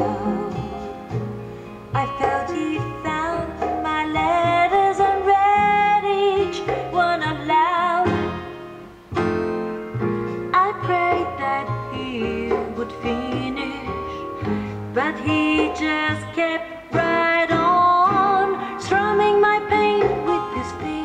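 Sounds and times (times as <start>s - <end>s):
song through loudspeaker: 0.0s - 1.3s, 1.9s - 8.9s, 10.3s - 21.0s.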